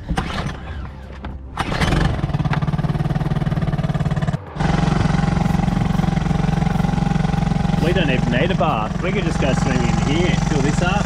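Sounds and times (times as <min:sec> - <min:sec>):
outboard motor running: 0:01.8 - 0:11.0.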